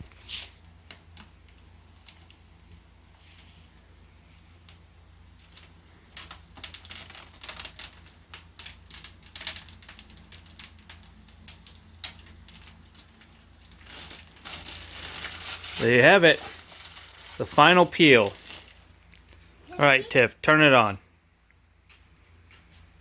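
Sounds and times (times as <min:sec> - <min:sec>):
plastic film peeling and crackling: 0:00.0 - 0:19.5.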